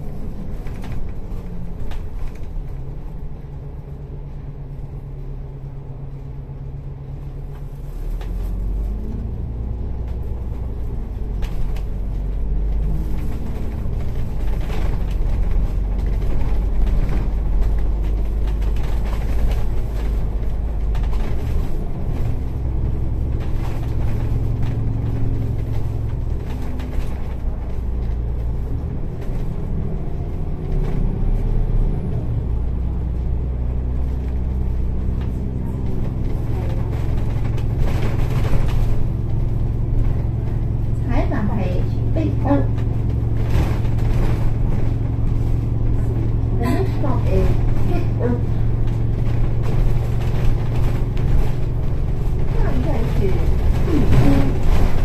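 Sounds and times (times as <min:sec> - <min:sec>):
bus body rattling and knocking: 0:00.0 - 0:55.0
bus engine drone: 0:00.0 - 0:55.0.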